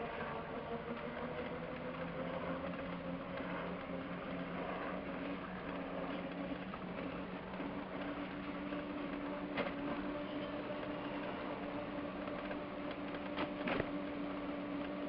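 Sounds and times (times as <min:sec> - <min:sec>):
electric scooter motor humming: 0:00.0 - 0:15.0
tyres rolling on pavement: 0:00.0 - 0:15.0.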